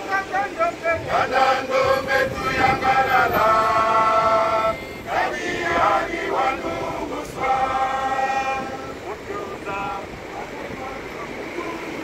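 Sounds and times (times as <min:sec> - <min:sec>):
group singing a chant: 0:00.0 - 0:11.8.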